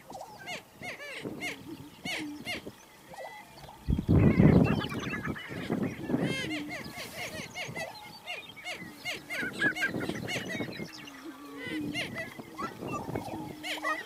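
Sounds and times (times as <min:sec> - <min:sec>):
prairie chickens cackling: 0:00.0 - 0:14.0.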